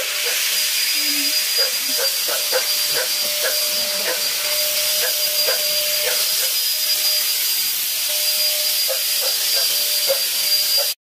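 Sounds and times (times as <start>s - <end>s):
fogging machine blower hiss: 0.0s - 11.0s.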